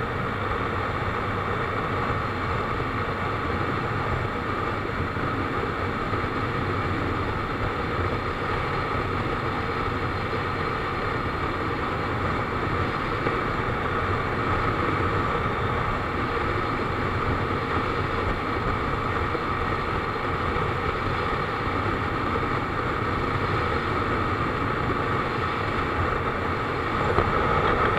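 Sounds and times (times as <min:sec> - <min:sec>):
motorcycle engine running: 0:00.0 - 0:27.9
wind rushing over microphone: 0:00.0 - 0:27.9.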